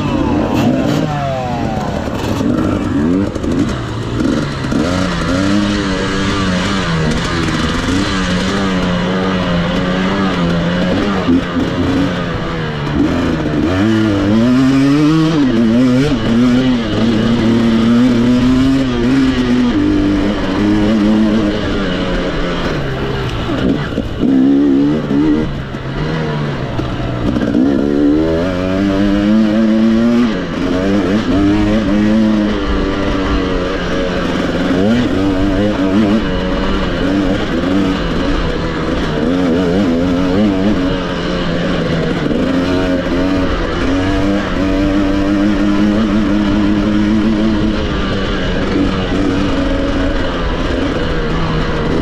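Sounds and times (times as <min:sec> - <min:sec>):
racing engine revving: 0:00.0 - 0:52.0.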